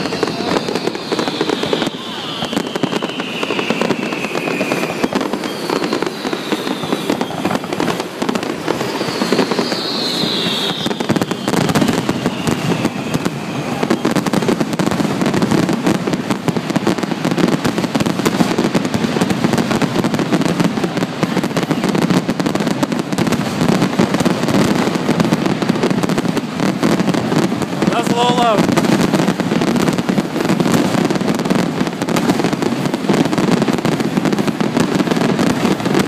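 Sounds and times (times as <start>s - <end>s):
firework shell bursts and crackling: 0.0s - 36.0s
firework whistles gliding down: 0.0s - 36.0s.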